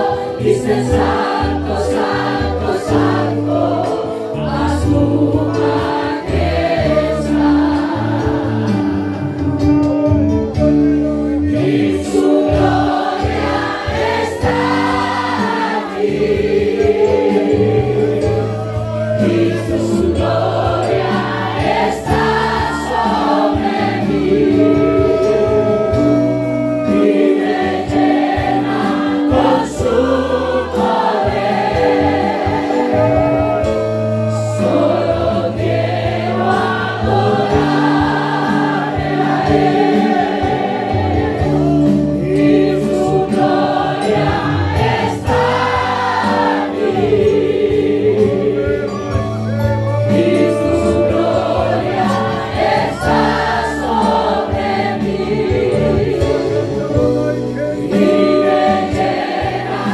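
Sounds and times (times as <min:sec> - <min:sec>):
group singing gospel song: 0:00.0 - 0:59.9
instrumental accompaniment: 0:00.0 - 0:59.9.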